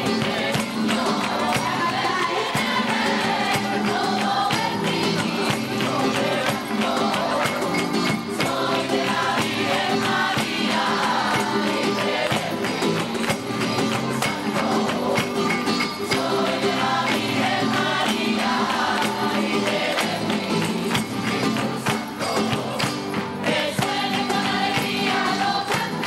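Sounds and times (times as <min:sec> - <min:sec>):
choir singing: 0:00.0 - 0:26.0
tambourine shaken and struck: 0:00.0 - 0:26.0.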